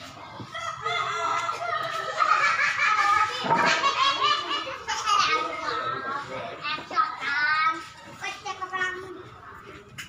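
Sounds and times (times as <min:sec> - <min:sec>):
people laughing and talking: 0:00.0 - 0:10.0.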